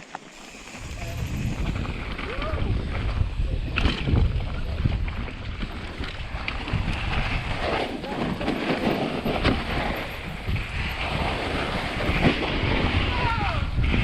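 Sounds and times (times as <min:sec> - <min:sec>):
bike tyres rumbling on dirt: 0:00.0 - 0:14.0
wind buffeting microphone: 0:00.3 - 0:14.0.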